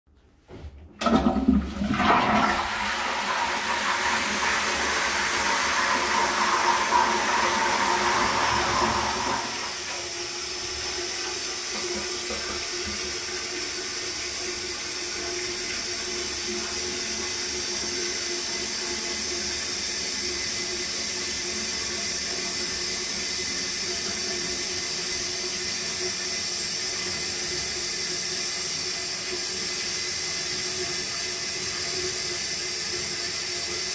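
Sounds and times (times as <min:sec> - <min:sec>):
toilet flushing: 0:00.8 - 0:33.9
cistern refilling with hiss: 0:02.7 - 0:33.9.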